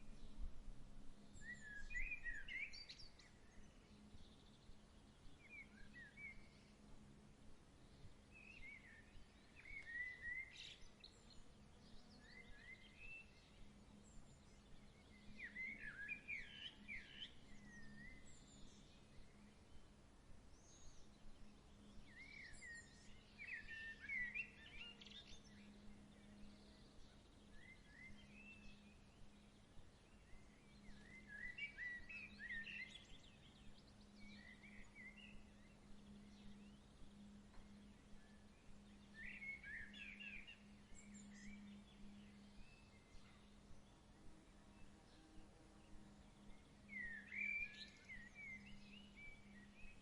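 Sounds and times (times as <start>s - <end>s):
background hiss: 0.0s - 50.0s
faint birdsong: 0.0s - 50.0s
faint low hum: 0.0s - 50.0s.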